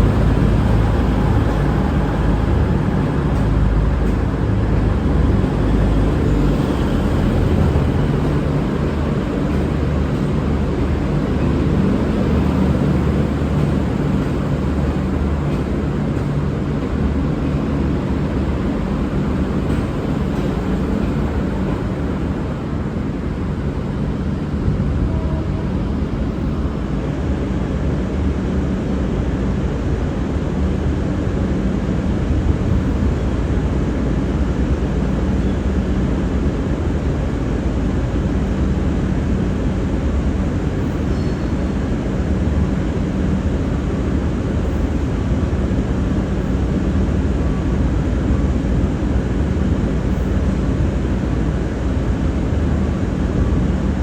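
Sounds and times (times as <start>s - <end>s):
diesel train rumbling: 0.0s - 54.0s.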